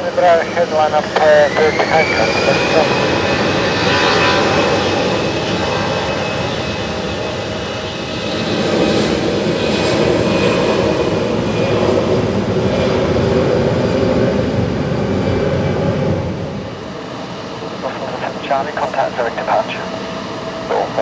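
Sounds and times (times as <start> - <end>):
jet engines at high power: 0.0 - 21.0.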